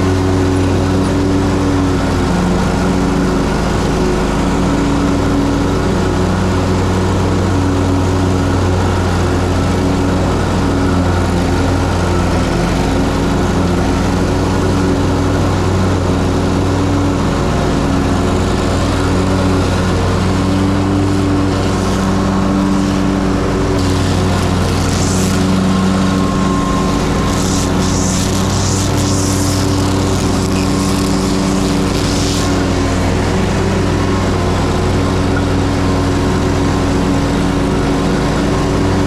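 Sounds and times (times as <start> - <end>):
mower engine running: 0.0 - 39.0.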